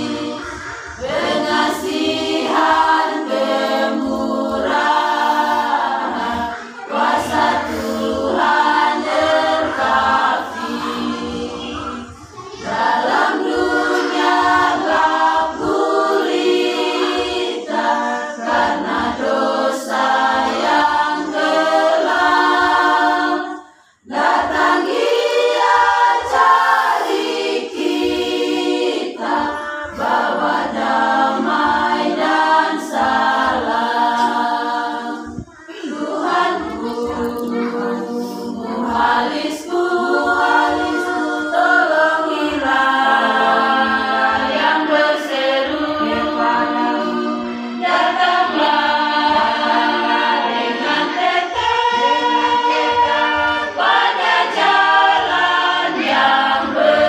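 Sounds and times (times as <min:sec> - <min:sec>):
women's choir singing a cappella: 0:00.0 - 0:57.0.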